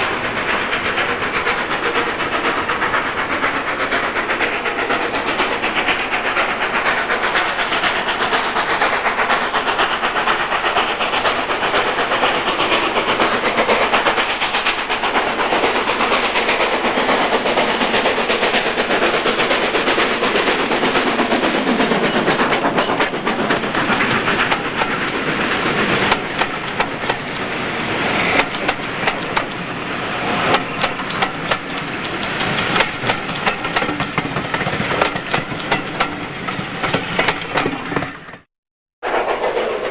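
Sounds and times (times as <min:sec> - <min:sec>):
train wheels clacking over rail joints: 0:00.0 - 0:38.5
steam locomotive hissing: 0:00.0 - 0:39.9.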